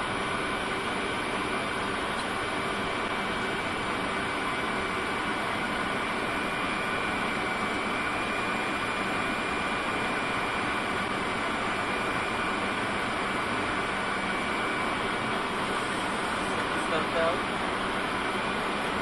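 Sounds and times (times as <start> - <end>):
aircraft cabin airflow rush: 0.0 - 19.0
faint high whine: 0.0 - 19.0.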